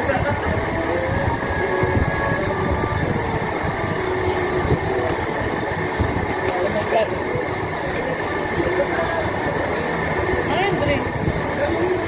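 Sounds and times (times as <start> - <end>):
restaurant room noise: 0.0 - 12.0
ventilation fans roaring: 0.0 - 12.0.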